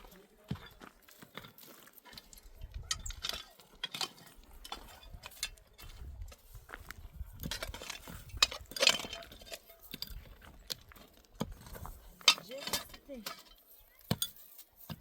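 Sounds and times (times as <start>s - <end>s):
hard objects clinking: 0.0s - 6.4s, 7.2s - 15.0s.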